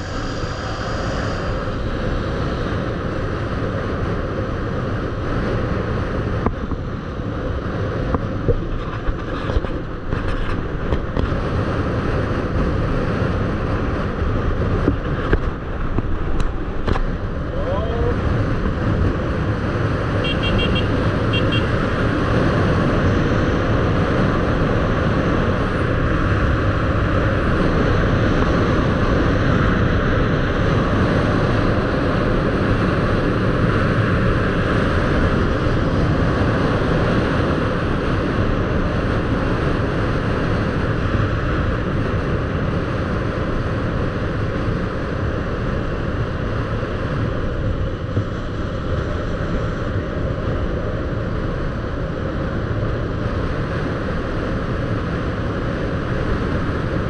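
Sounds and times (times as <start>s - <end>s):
vehicle road noise: 0.0s - 57.0s
wind on microphone: 0.0s - 57.0s.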